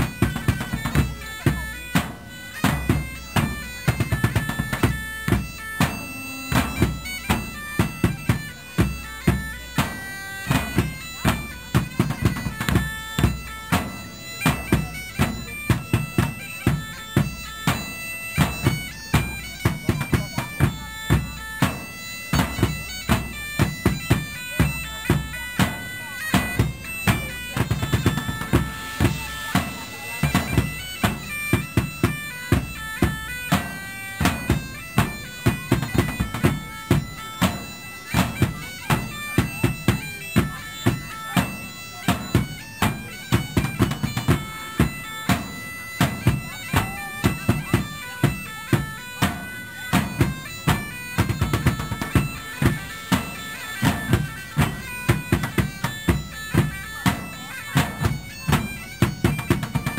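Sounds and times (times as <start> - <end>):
droning reed-pipe melody: 0.0 - 59.9
steady drum beat: 0.0 - 59.9.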